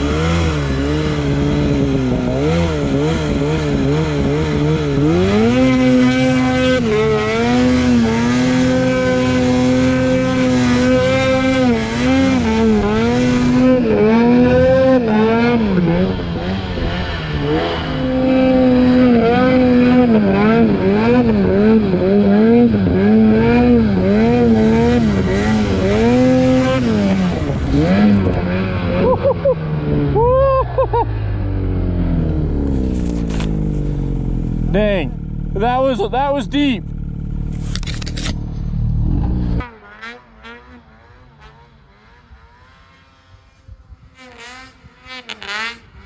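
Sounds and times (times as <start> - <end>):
snowmobile engine revving: 0.0 - 46.0.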